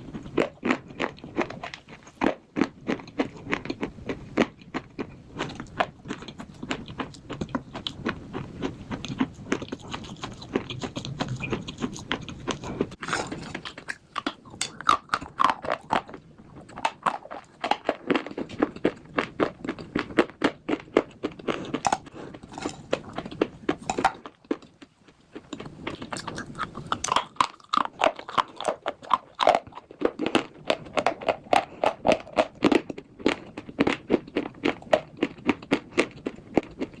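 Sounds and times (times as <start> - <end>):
chewing with dry crunches: 0.0 - 37.0.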